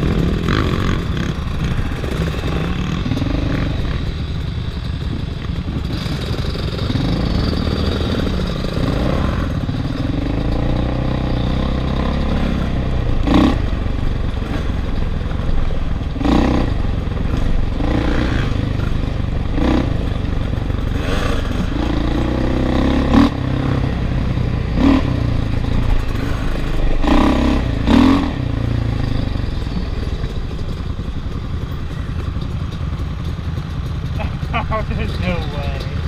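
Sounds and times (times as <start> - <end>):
off-road engine revving: 0.0 - 36.0.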